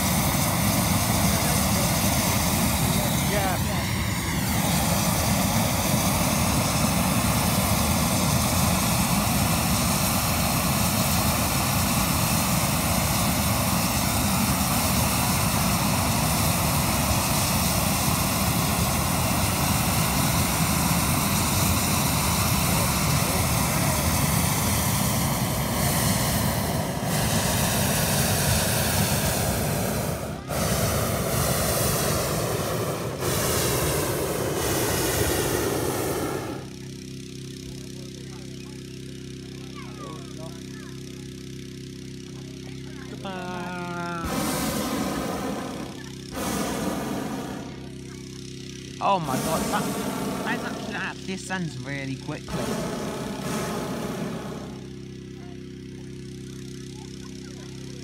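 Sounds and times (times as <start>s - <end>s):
propane burner roaring: 0.0s - 58.0s.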